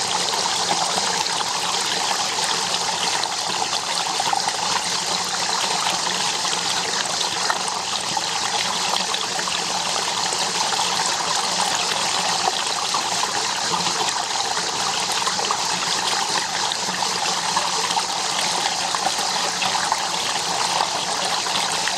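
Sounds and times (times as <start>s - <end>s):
water running: 0.0s - 21.9s.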